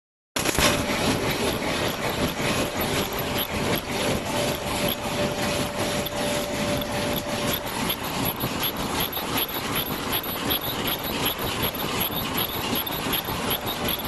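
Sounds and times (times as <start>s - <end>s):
sewing machine clattering: 0.4s - 14.0s
steady machine whine: 0.4s - 14.0s.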